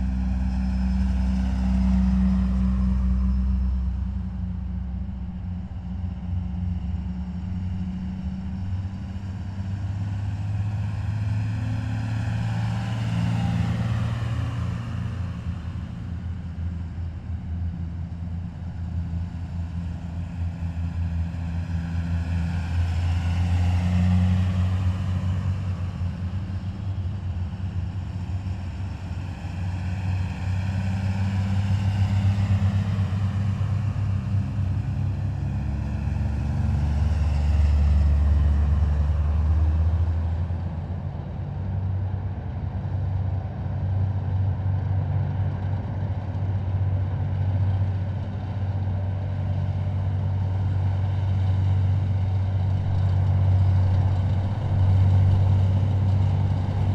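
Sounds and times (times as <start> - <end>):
heavy diesel vehicles driving past: 0.0 - 56.9.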